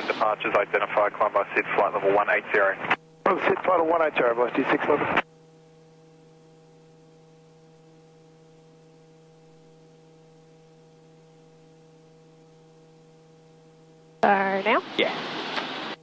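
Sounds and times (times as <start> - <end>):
radio electrical hum: 0.0 - 16.0.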